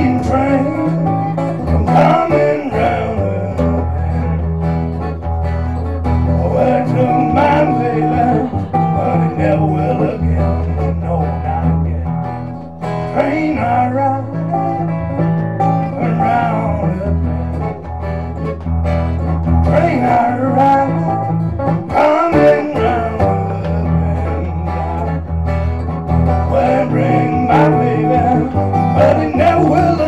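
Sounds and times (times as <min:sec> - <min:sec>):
man singing: 0:00.0 - 0:04.9, 0:06.3 - 0:17.8, 0:19.6 - 0:25.4, 0:26.4 - 0:30.0
acoustic guitar strumming: 0:00.0 - 0:30.0
low bass notes: 0:00.0 - 0:30.0.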